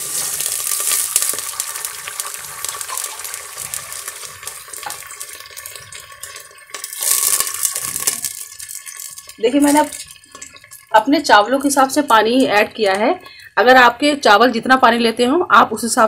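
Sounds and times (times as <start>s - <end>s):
water splashing into hot oil: 0.0s - 13.0s
oil sizzling: 0.0s - 14.2s.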